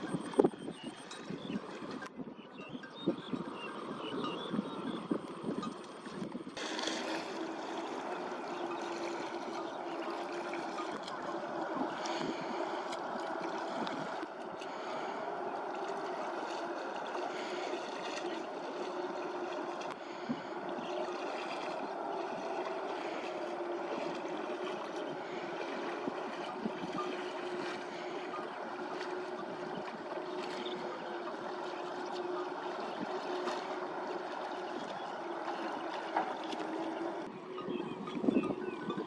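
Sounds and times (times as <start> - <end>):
flowing water: 0.0 - 39.0
steady low hum: 0.0 - 39.0.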